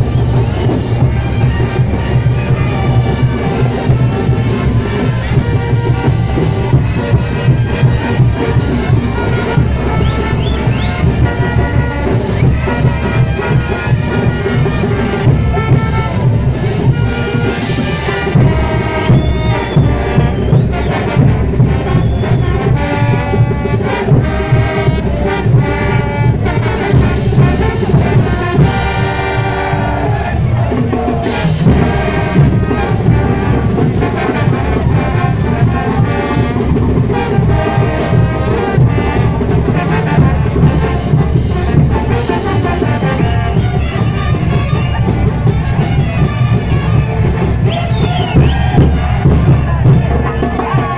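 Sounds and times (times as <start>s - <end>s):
brass band playing carnival music: 0.0s - 50.9s.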